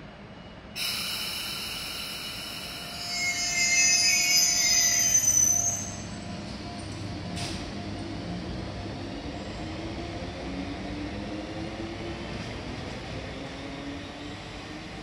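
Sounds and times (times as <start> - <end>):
train wheels rumbling on rail: 0.6 - 15.0.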